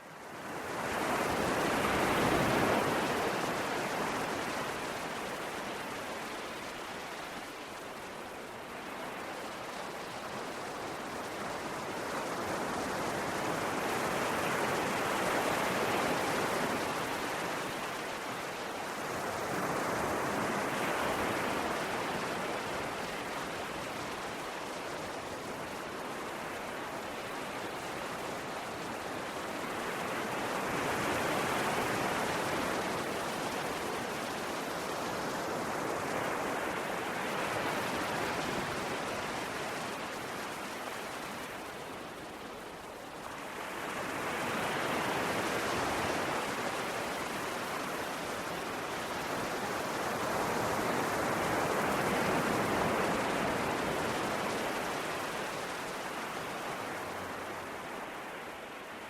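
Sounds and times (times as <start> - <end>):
sea waves washing in: 0.2 - 59.0.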